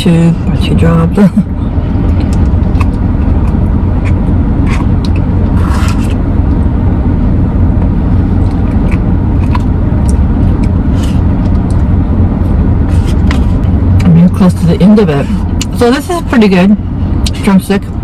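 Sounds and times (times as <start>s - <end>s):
car cabin rumble: 0.0s - 18.0s.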